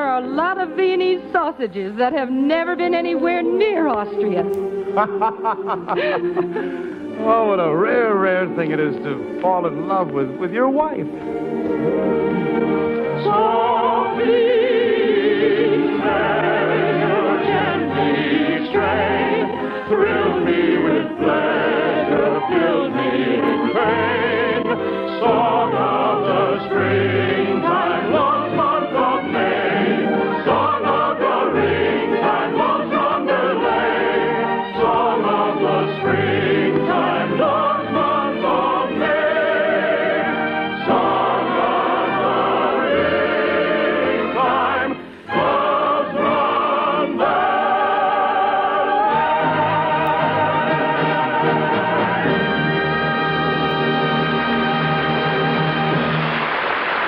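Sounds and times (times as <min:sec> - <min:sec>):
operetta singing with orchestra: 0:00.0 - 0:56.5
choir singing: 0:00.0 - 0:57.0.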